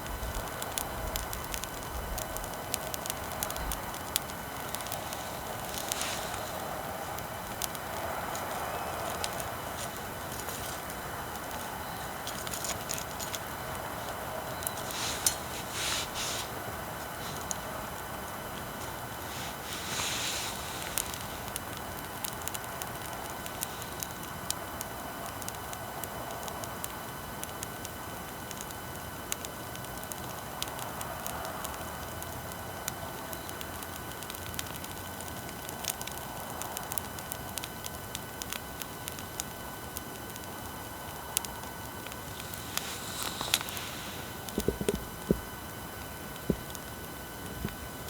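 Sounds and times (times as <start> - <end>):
bonfire crackling and popping: 0.0 - 48.0
electrical hiss and whine: 0.0 - 48.0.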